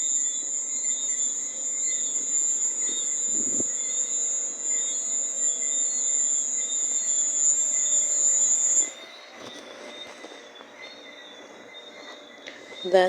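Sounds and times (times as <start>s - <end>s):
cricket trilling: 0.0s - 13.0s
faint insect calls: 0.0s - 13.0s.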